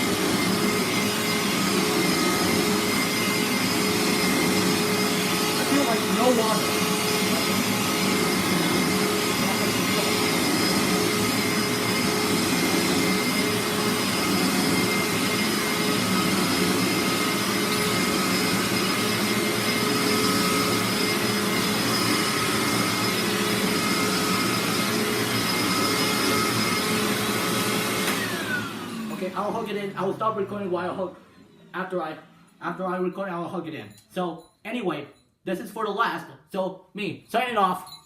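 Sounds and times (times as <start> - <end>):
carpet cleaner suction motor whine: 0.0 - 31.8.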